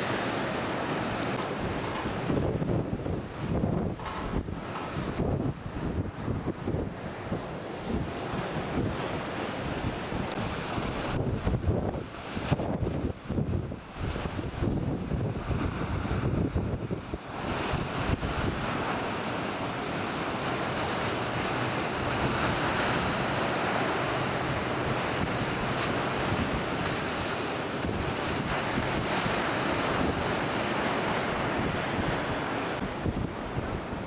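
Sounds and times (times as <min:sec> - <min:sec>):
ocean surf breaking: 0:00.0 - 0:34.0
wind buffeting microphone: 0:00.0 - 0:34.0.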